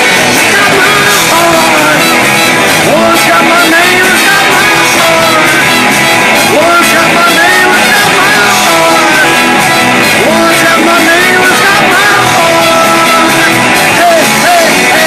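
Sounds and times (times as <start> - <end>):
drums: 0.0 - 15.0
electric bass: 0.0 - 15.0
electric guitar: 0.0 - 15.0
man singing: 0.0 - 15.0.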